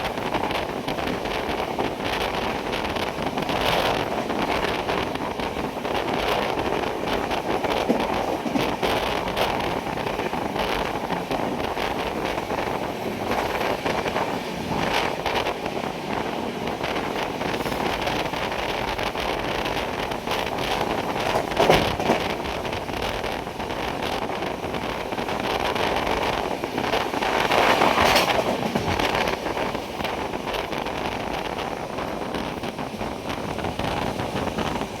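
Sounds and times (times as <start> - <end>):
moving train running: 0.0 - 35.0
wind rushing over microphone: 0.0 - 35.0.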